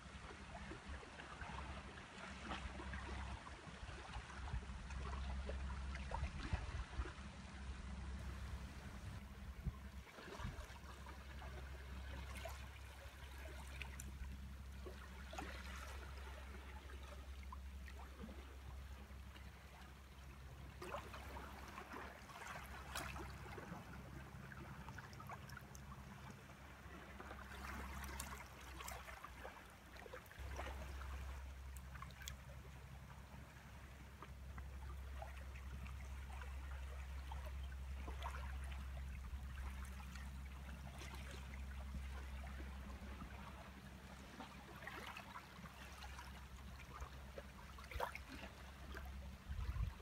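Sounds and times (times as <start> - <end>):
low steady rumble: 0.0 - 50.0
sea lapping at shore: 0.0 - 50.0.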